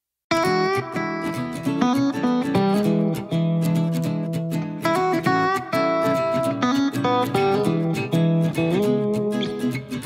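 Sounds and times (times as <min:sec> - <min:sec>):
plucked guitar music: 0:00.3 - 0:10.0.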